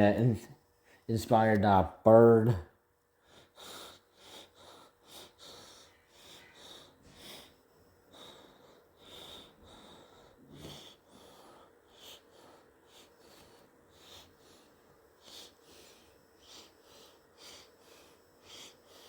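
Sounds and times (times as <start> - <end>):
soft breathing close to microphone: 3.2 - 19.0.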